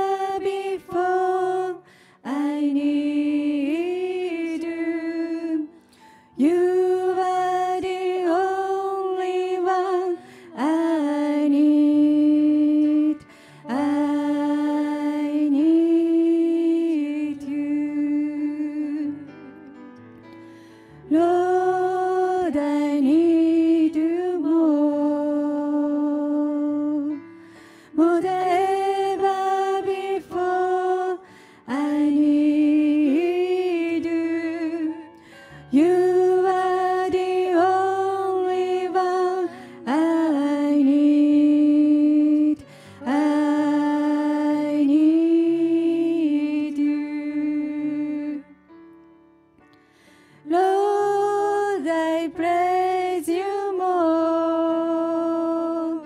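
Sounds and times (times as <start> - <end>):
women singing worship song: 0.0 - 19.5, 21.0 - 48.5, 50.4 - 56.0.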